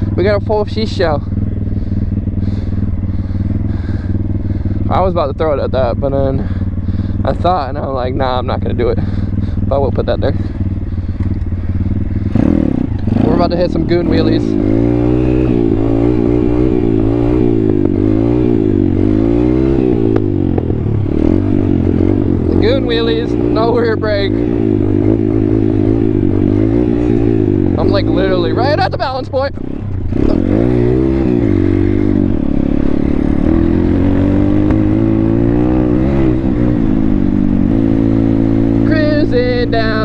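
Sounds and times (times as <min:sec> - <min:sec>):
bike rattling: 0:00.0 - 0:40.0
motorbike engine revving: 0:00.0 - 0:40.0.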